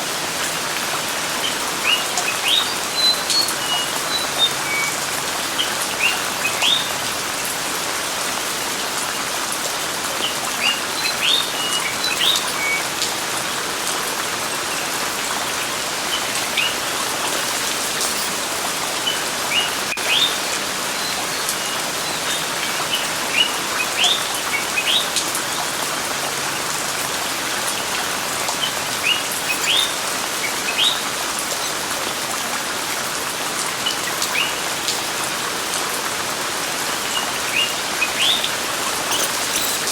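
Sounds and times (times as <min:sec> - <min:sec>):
steady rain: 0:00.0 - 0:39.9
small birds chirping: 0:01.0 - 0:07.6, 0:10.0 - 0:32.2, 0:33.6 - 0:35.3, 0:36.4 - 0:39.9.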